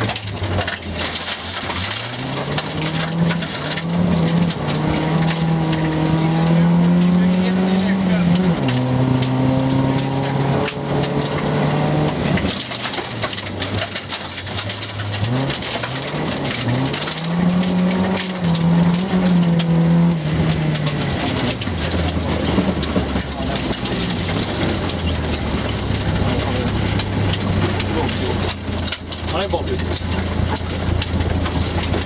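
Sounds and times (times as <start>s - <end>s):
car engine revving: 0.0s - 32.0s
gravel pinging against car underside: 0.0s - 32.0s.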